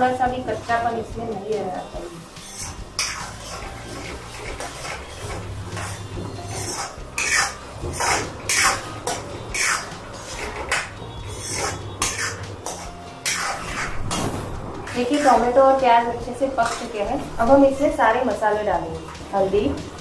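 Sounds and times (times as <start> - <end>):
metal spatula scraping pan: 1.6 - 18.0.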